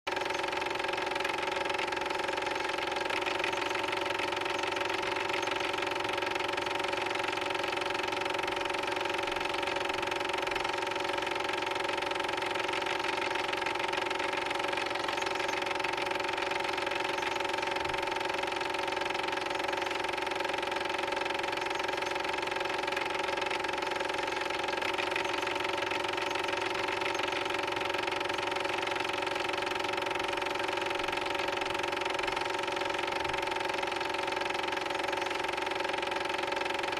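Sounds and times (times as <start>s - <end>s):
film projector whirring and clattering: 0.1s - 36.9s.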